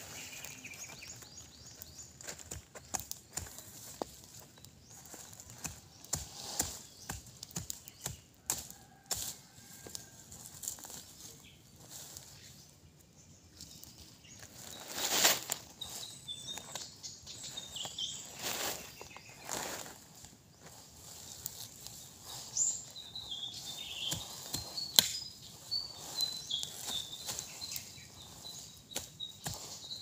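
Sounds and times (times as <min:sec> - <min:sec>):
dry grass and leaves rustling: 0:00.0 - 0:30.0.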